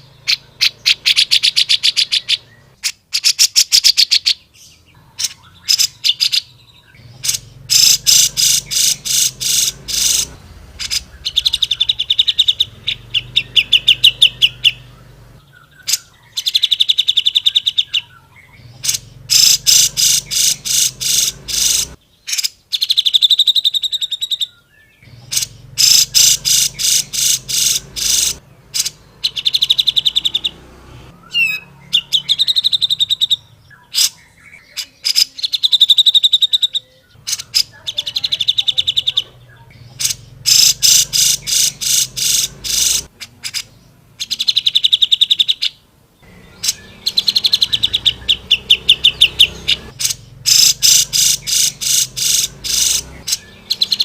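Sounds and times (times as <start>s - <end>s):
bulbul chattering song: 0.0s - 54.0s.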